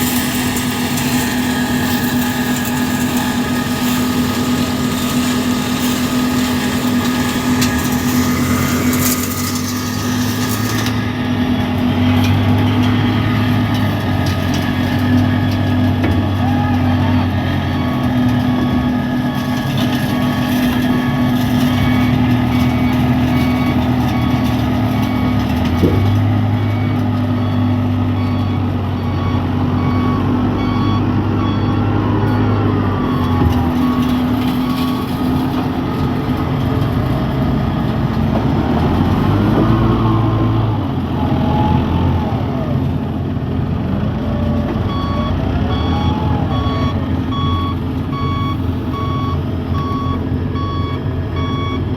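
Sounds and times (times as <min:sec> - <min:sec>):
reversing alarm beeping: 0:00.0 - 0:36.0, 0:44.3 - 0:51.9
diesel machinery running: 0:00.0 - 0:51.9.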